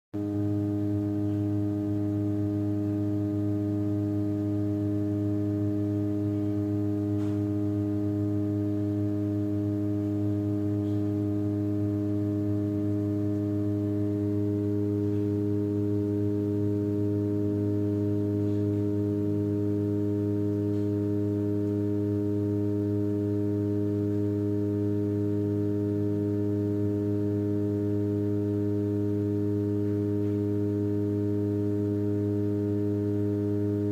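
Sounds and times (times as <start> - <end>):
ship's low droning tone: 0.2 - 33.9.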